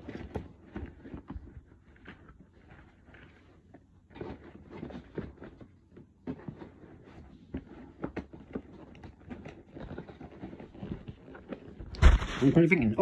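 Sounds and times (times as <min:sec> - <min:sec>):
objects being handled: 0:00.0 - 0:13.0.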